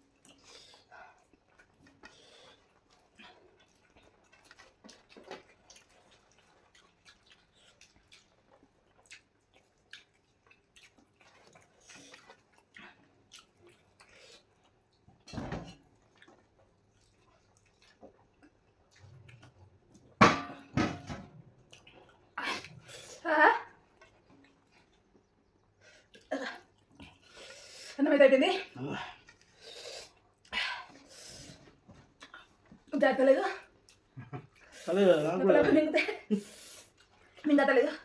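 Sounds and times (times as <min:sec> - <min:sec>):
food being chewed: 0:00.0 - 0:20.2, 0:21.3 - 0:23.1, 0:23.8 - 0:27.6, 0:29.0 - 0:32.9, 0:33.6 - 0:34.9, 0:36.8 - 0:37.4.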